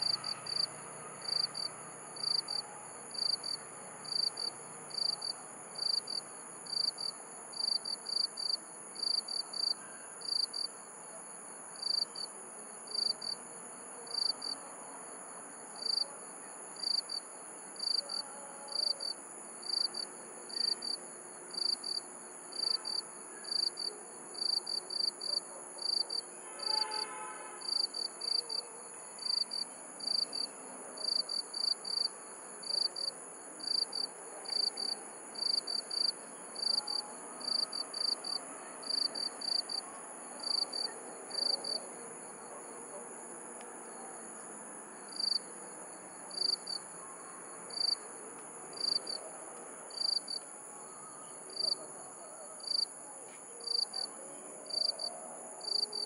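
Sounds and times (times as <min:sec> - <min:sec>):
cricket chirps: 0:00.0 - 0:56.0.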